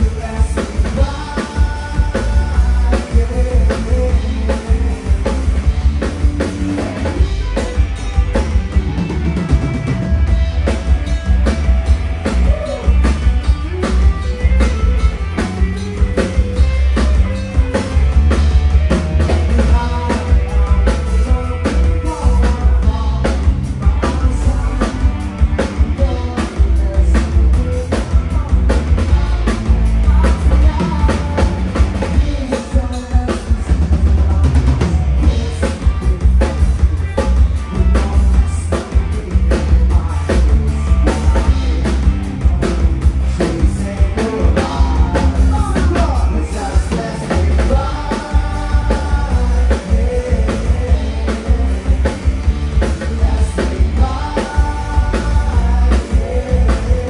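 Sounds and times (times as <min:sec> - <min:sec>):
drum kit beat: 0:00.0 - 0:57.0
live rock band playing: 0:00.0 - 0:57.0.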